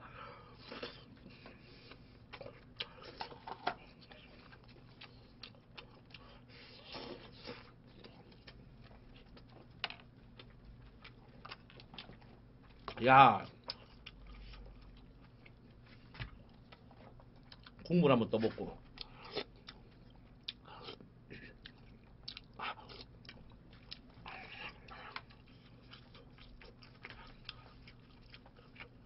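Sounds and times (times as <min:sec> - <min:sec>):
chewing: 0:00.5 - 0:29.0.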